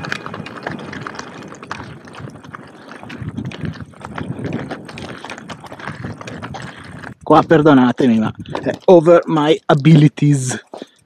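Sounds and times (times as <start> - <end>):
steady rumble: 0.0 - 9.3
mountain bike rattling over rocks: 0.0 - 11.0.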